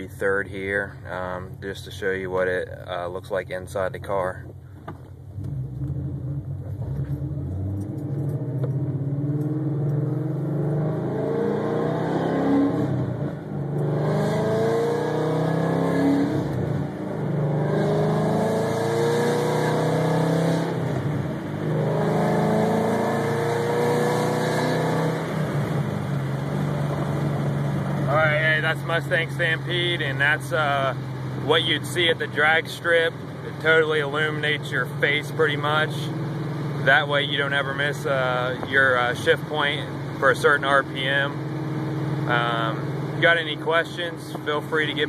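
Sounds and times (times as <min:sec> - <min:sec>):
car engine accelerating through gears: 0:05.3 - 0:32.4, 0:33.1 - 0:45.0.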